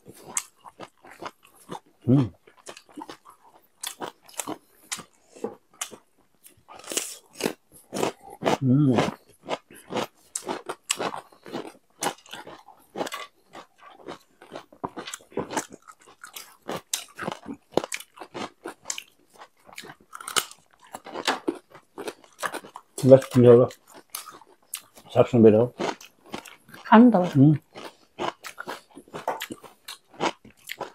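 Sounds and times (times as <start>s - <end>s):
chewing and crunching food: 0.0s - 30.9s.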